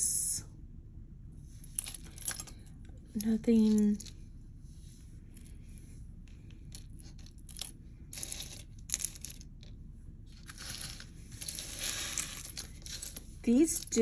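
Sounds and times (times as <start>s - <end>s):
earrings clicking and rustling: 1.5s - 4.4s, 5.2s - 14.0s.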